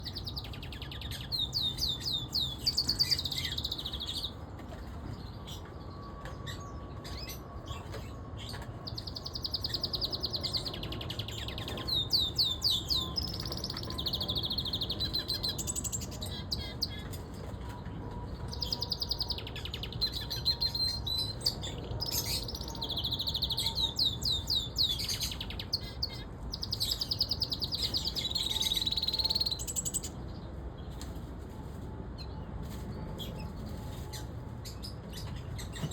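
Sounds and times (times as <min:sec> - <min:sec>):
canary singing trills: 0:00.0 - 0:04.4, 0:05.1 - 0:30.5.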